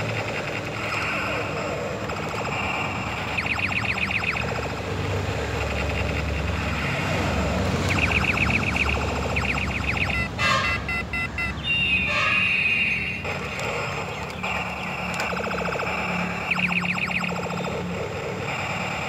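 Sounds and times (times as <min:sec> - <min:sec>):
electronic beeping tones: 0:00.0 - 0:07.0, 0:07.8 - 0:17.8
low electronic hum: 0:00.0 - 0:19.0
rapid pulsing electronic tone: 0:00.0 - 0:19.0
falling electronic tone: 0:00.7 - 0:13.3, 0:14.5 - 0:17.6.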